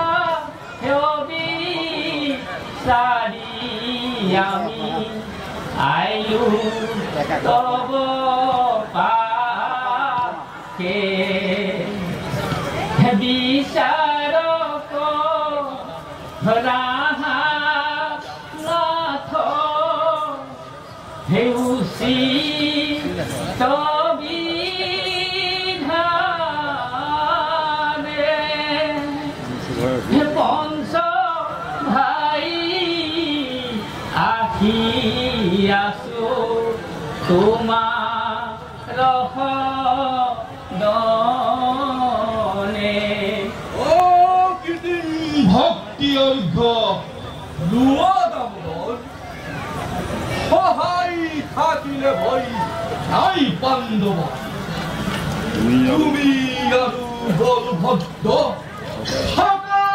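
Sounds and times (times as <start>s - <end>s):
person chanting a devotional song: 0.0s - 49.1s, 55.4s - 59.9s.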